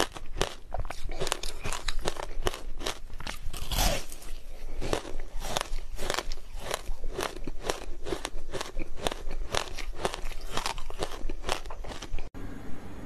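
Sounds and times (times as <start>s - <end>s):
ice crunching between teeth: 0.0s - 12.3s.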